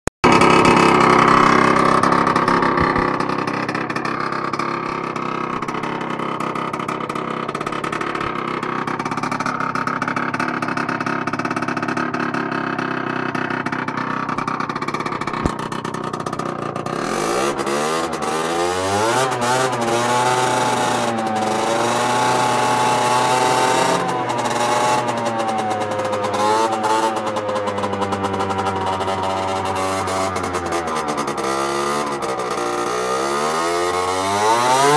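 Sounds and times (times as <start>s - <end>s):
scooter engine revving: 0.2s - 34.9s.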